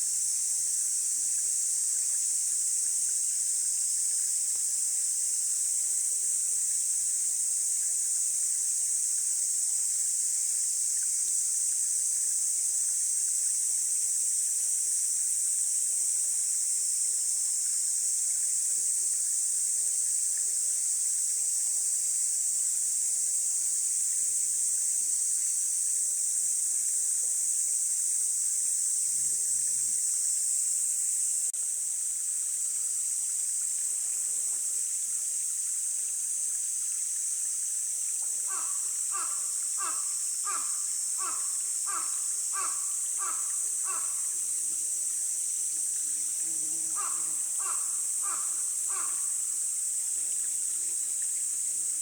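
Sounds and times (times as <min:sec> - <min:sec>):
insect chorus drone: 0:00.0 - 0:52.0.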